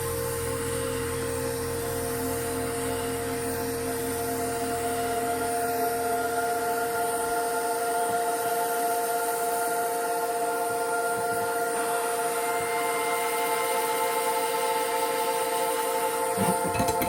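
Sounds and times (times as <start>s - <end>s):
small machine whine and hiss: 0.0s - 17.0s.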